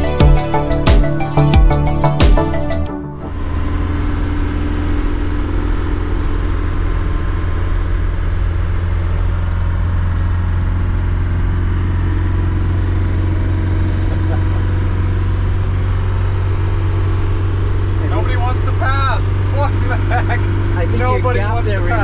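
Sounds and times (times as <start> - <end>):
diesel van engine droning: 0.0 - 22.0
road noise: 0.0 - 22.0.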